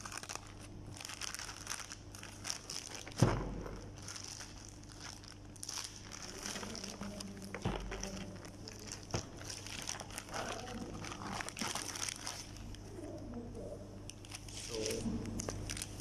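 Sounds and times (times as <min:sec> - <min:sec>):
plastic bag crinkling: 0:00.0 - 0:13.4, 0:14.1 - 0:16.0.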